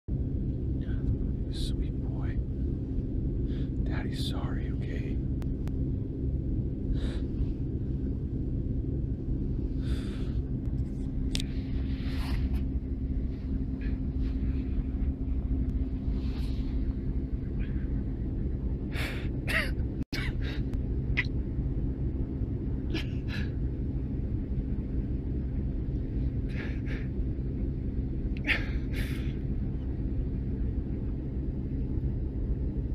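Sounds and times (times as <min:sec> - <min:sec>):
car cabin rumble: 0:00.1 - 0:32.9.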